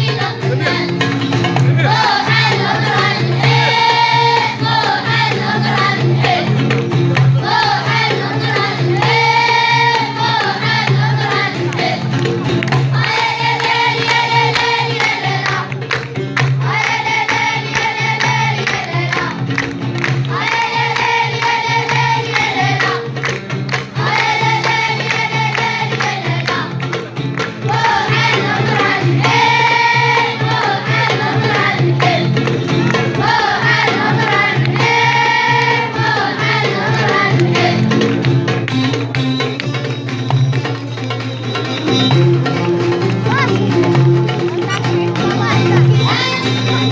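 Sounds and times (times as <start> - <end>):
children's choir singing: 0.0 - 38.2, 43.2 - 46.9.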